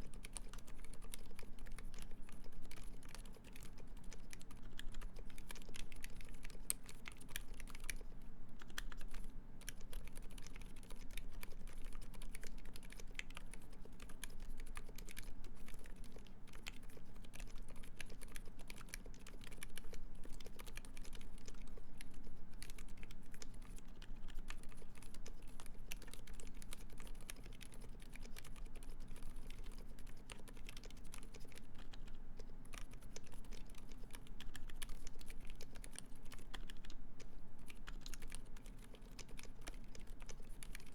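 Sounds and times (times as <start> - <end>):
muted keyboard typing: 0.0 - 40.9.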